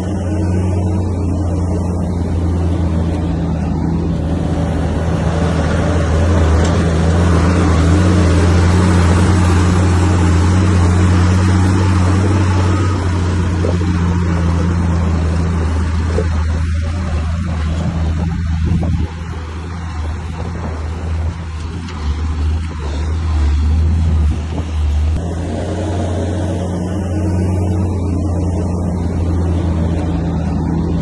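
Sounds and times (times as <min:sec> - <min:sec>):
diesel machine engine under load: 0:00.0 - 0:31.0.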